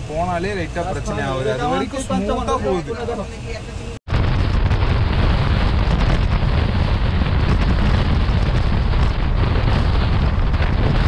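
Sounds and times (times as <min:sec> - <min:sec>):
train rumbling at speed: 0:00.0 - 0:11.0
wind buffeting microphone: 0:00.0 - 0:11.0.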